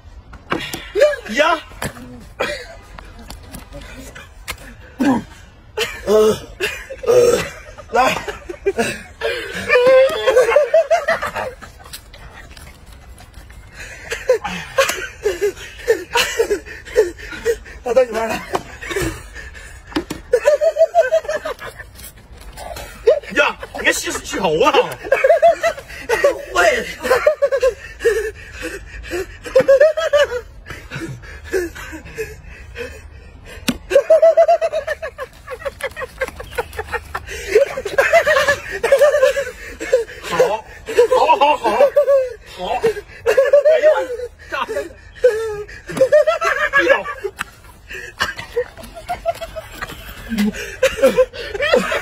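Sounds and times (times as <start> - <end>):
man laughing: 0.8 - 12.4, 13.8 - 52.0.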